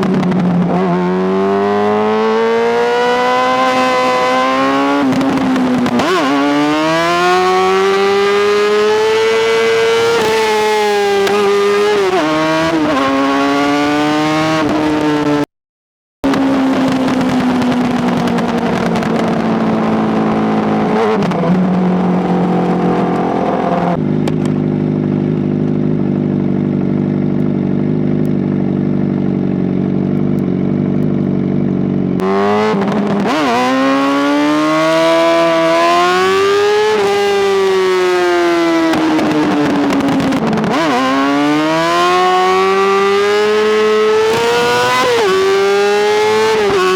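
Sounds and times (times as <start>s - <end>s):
motorcycle engine revving: 0.0s - 15.5s, 16.2s - 46.9s.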